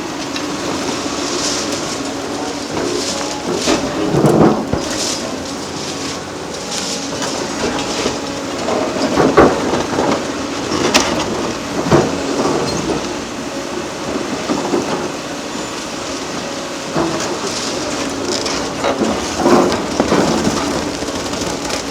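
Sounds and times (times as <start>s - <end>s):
concrete crunching and machinery: 0.0s - 21.9s.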